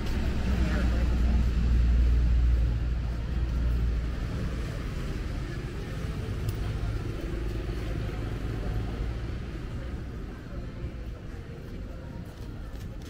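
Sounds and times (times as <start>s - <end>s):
steady traffic noise: 0.0s - 13.0s.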